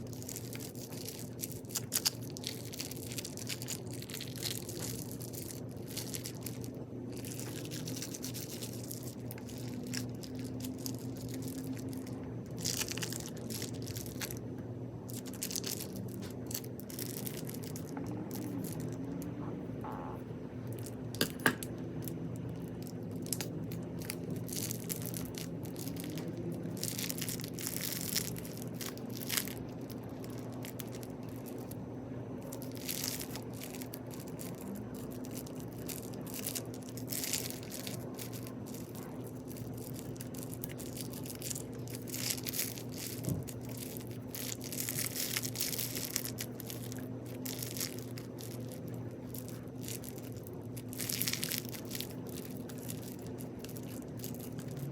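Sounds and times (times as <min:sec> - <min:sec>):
crunchy slime being squeezed: 0:00.0 - 0:31.8, 0:32.4 - 0:54.9.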